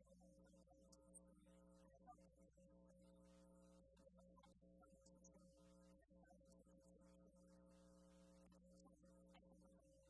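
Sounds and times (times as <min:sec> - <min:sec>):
faint broken music: 0:00.0 - 0:10.0.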